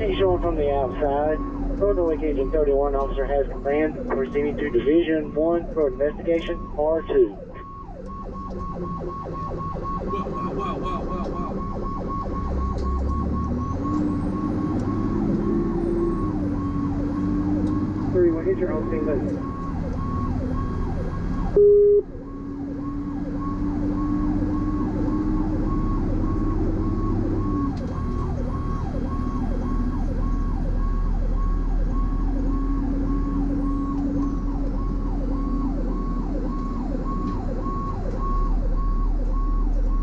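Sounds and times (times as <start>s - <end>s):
engine drone: 0.0s - 40.0s
fire truck siren yelping: 0.0s - 40.0s.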